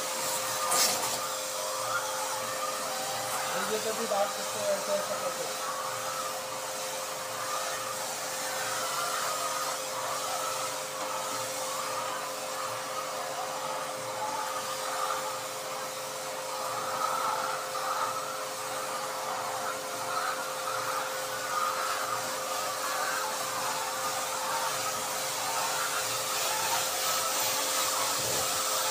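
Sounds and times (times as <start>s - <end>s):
liquid spraying: 0.0s - 28.9s
pressure pump humming: 0.0s - 28.9s.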